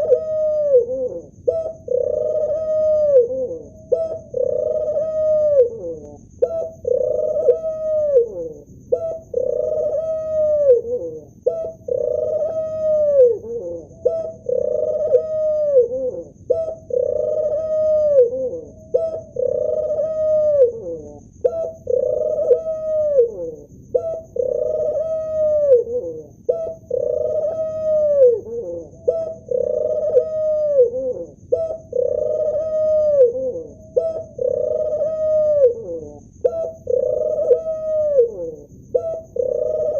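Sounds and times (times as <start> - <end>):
dove cooing: 0.0 - 39.9
faint high whine: 0.0 - 39.9.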